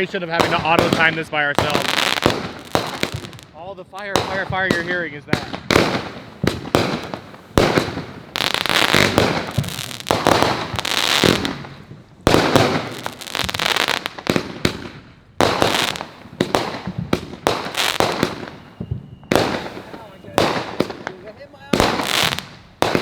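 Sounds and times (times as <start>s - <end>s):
fireworks banging: 0.0s - 23.0s.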